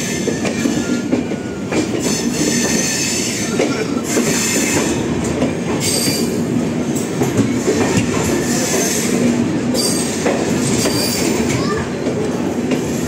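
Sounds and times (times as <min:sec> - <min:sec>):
train wheel-on-rail rumble: 0:00.0 - 0:13.0.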